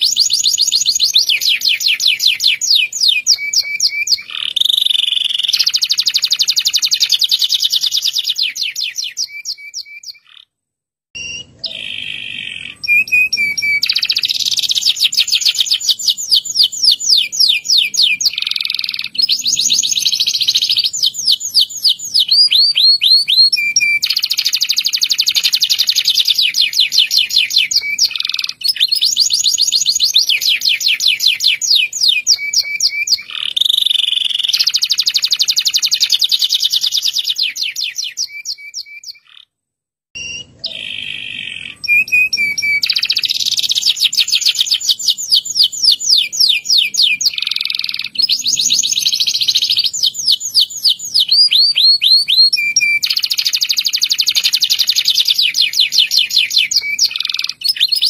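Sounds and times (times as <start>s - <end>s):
canary singing trills: 0.0s - 10.6s, 11.2s - 39.5s, 40.2s - 58.0s.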